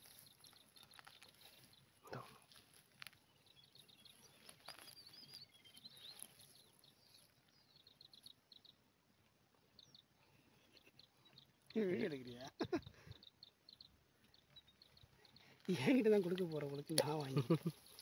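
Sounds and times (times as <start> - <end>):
faint birdsong chirps and warbling: 0.0 - 18.0.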